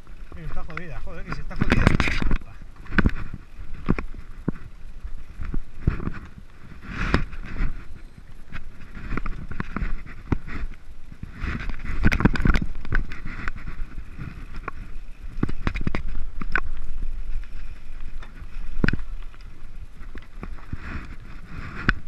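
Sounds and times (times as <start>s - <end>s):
bike rattling over rocks: 0.0s - 22.0s
bike tyres rumbling on trail: 0.0s - 22.0s.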